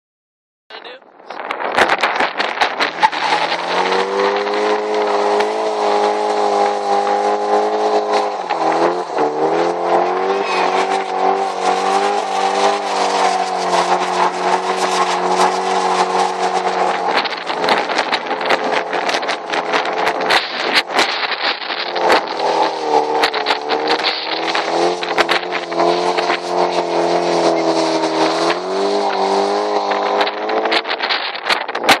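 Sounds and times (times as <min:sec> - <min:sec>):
car engine at high revs: 0:00.8 - 0:32.0
spinning tyres hissing: 0:02.6 - 0:30.9.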